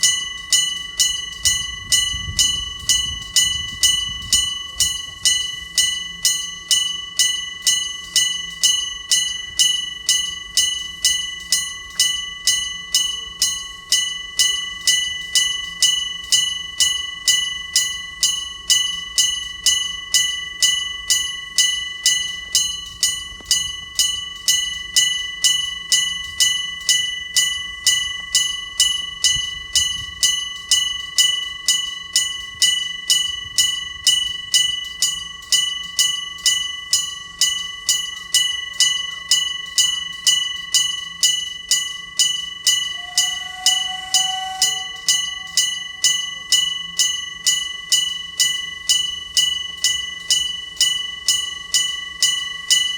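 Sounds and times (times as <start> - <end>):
level crossing bell ringing: 0.0 - 52.9.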